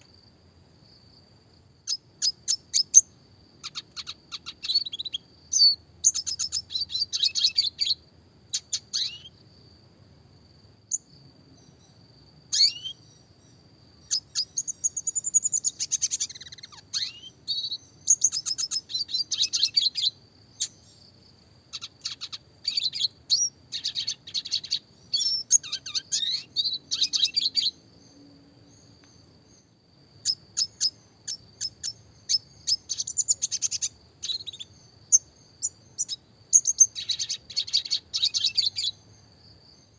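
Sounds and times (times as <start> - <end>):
bird twittering song: 1.8 - 9.7, 10.9 - 39.9.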